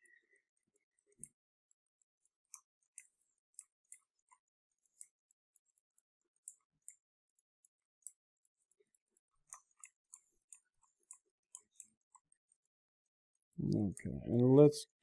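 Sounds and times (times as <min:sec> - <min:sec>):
computer mouse and keyboard clicks: 0:00.0 - 0:15.0.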